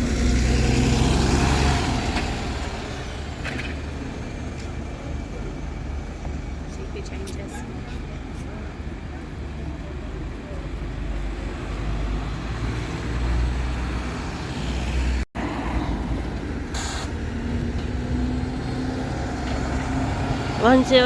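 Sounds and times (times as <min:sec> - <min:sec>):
bus engine running: 0:00.0 - 0:21.0
road traffic: 0:00.0 - 0:21.0.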